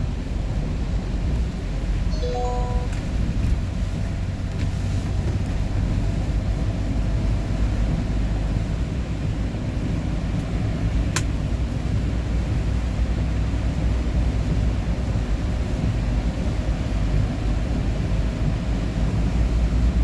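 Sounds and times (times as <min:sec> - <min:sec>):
vehicle road and engine rumble: 0:00.0 - 0:02.1, 0:03.1 - 0:20.0.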